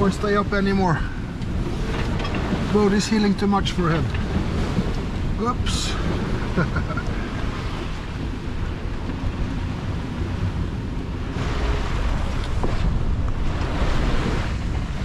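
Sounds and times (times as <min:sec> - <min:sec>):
waves and spray rushing along hull: 0:00.0 - 0:15.0
wind buffeting microphone: 0:00.0 - 0:15.0.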